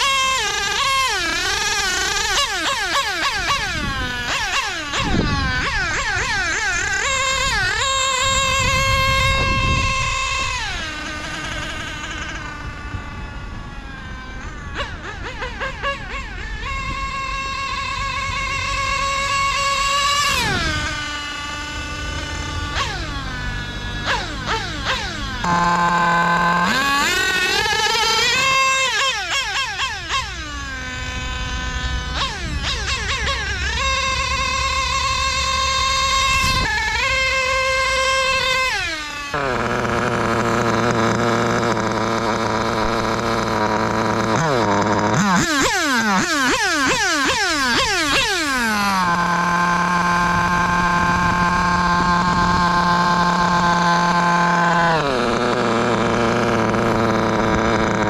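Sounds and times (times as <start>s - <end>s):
nitro rc car engine whine: 0.0s - 58.0s.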